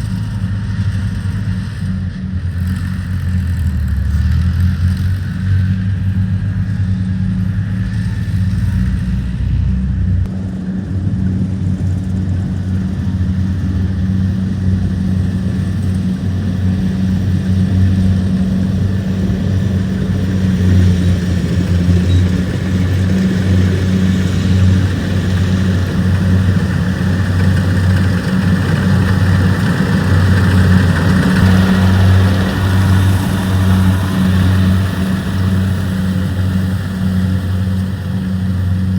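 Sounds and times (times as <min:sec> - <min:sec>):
harvester engines humming: 0:00.0 - 0:38.9.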